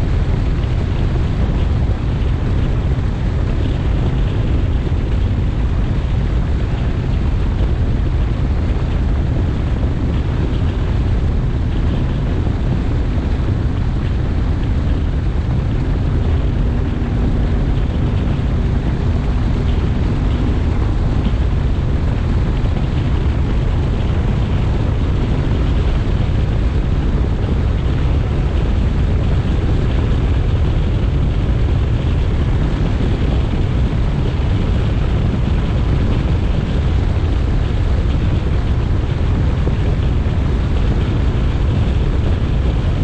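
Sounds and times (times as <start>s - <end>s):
outboard motor rumble: 0.0s - 43.0s
wind on microphone: 0.0s - 43.0s.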